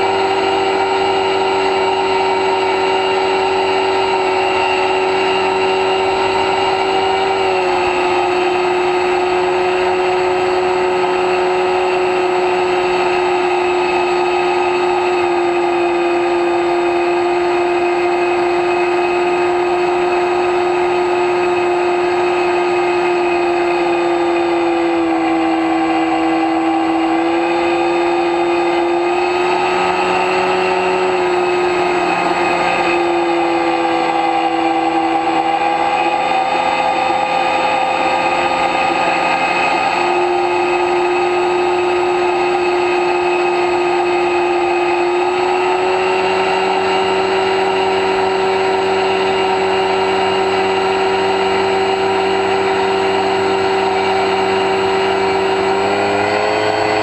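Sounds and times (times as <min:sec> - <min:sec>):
electric motor propeller whine: 0:00.0 - 0:57.0.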